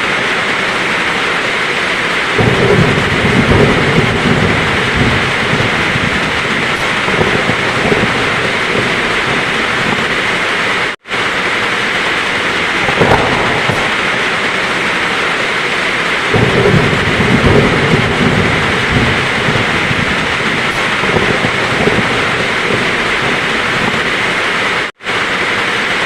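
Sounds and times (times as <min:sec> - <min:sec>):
thunder rumbling: 0:00.0 - 0:25.4
heavy rain pouring: 0:00.0 - 0:26.0.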